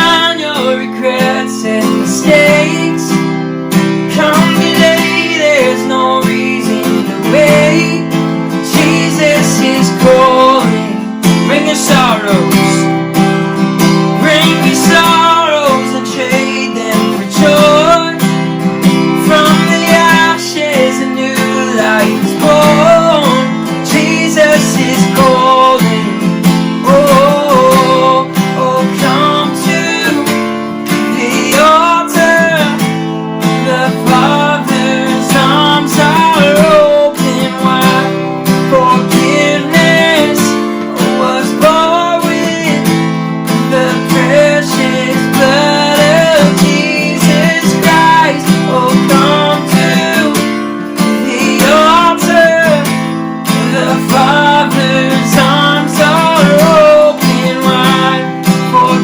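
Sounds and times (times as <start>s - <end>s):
worship song with acoustic guitar: 0.0s - 59.0s.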